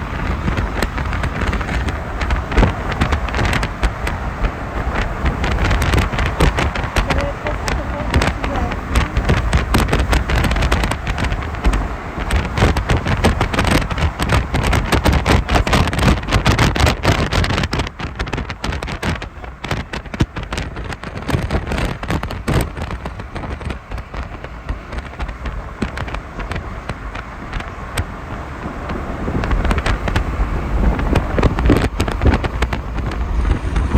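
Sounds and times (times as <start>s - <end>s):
heavy rain on hard surface: 0.0s - 33.9s
low rumble: 0.0s - 33.9s.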